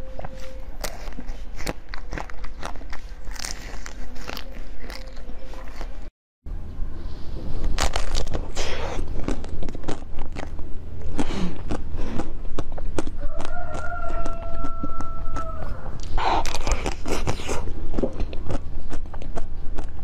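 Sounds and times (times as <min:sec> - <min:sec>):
frozen food crunching: 0:00.0 - 0:06.1, 0:07.6 - 0:20.0.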